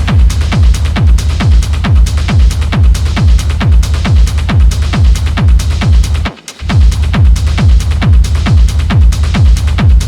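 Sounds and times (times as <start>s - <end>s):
hi-hats: 0.0s - 10.0s
kick drum thumps: 0.0s - 10.0s
techno music: 0.0s - 10.0s.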